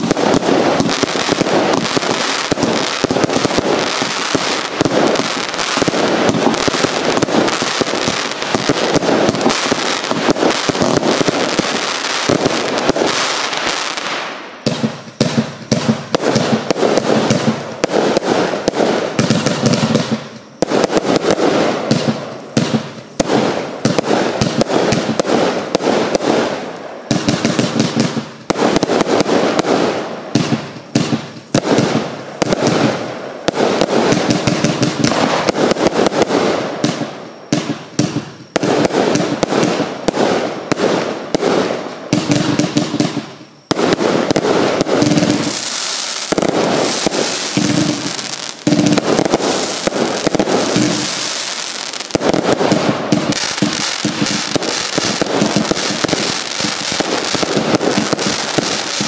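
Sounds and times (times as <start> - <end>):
firework shells bursting: 0.0 - 59.0.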